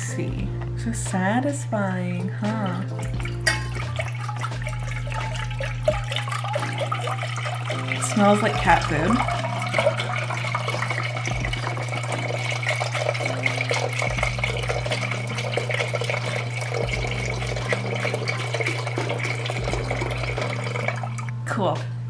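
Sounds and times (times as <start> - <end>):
liquid pouring into a pot: 2.6 - 21.4.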